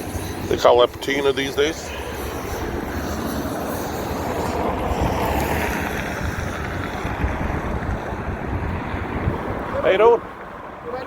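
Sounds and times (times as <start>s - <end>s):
road traffic rumble and tyre hiss: 0.0s - 11.0s
wind buffeting microphone: 0.0s - 11.0s.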